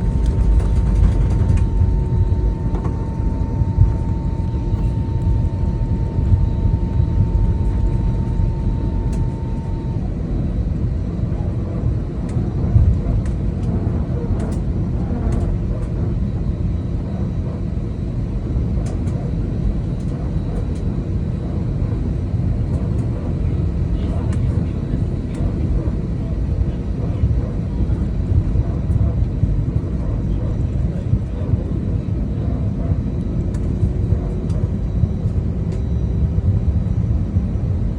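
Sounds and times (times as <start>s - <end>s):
airplane cabin rumble: 0.0s - 37.9s.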